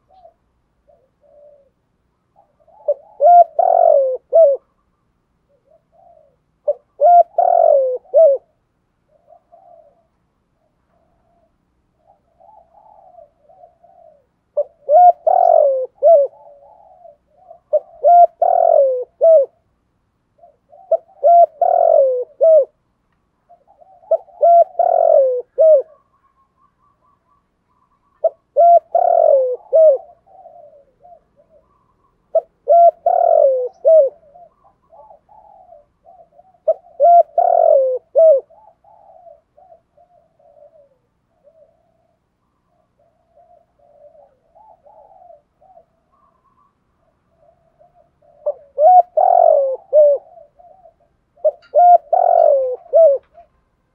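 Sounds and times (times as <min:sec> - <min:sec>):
dove cooing: 0:00.0 - 0:22.8, 0:23.4 - 0:53.9.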